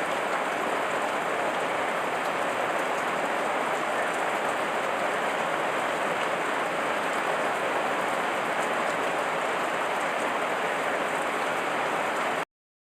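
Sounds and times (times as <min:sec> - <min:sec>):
heavy rain: 0:00.0 - 0:12.5.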